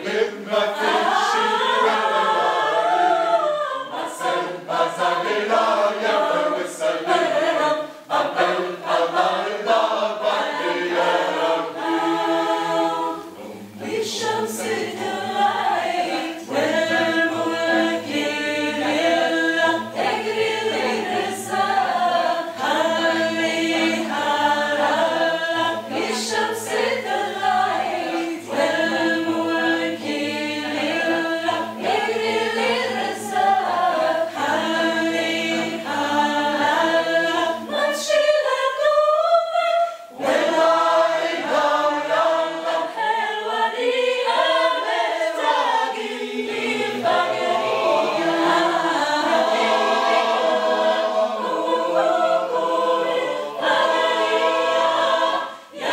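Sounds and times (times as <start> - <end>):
unaccompanied mixed choir singing: 0.0 - 55.9.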